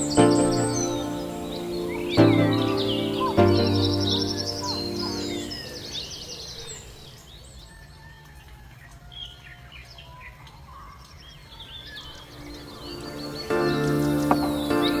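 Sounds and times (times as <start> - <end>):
small birds chirping: 0.0 - 8.1, 9.2 - 15.0.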